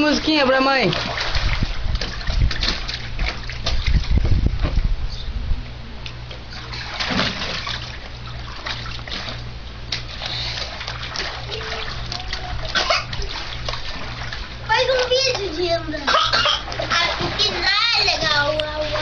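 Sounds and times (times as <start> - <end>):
water splashing in a pool: 0.0 - 4.8, 6.3 - 19.0.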